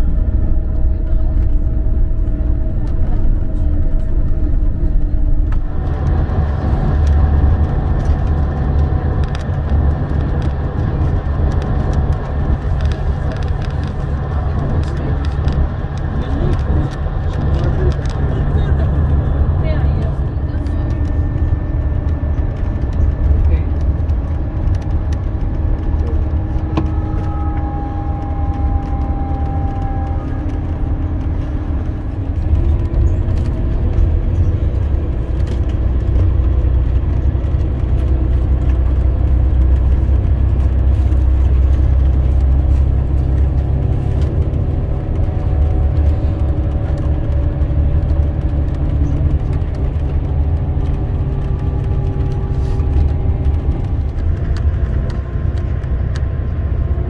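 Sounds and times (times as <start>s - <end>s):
diesel engine drone: 0.0s - 57.0s
road noise: 0.0s - 57.0s.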